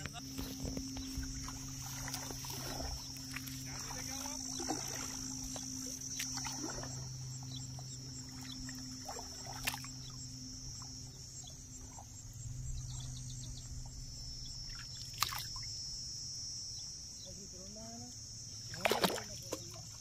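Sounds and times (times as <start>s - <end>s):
high-pitched insect drone: 0.0s - 20.0s
low steady hum: 0.0s - 20.0s.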